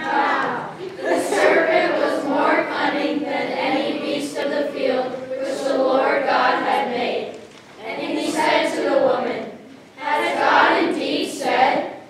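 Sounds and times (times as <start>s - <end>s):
choir singing in unison: 0.0s - 12.0s.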